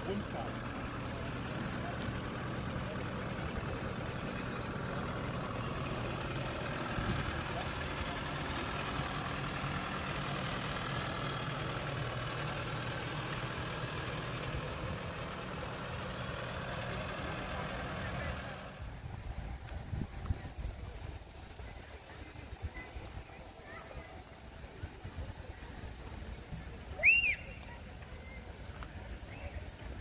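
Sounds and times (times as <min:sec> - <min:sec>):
road train engine humming: 0:00.0 - 0:30.0.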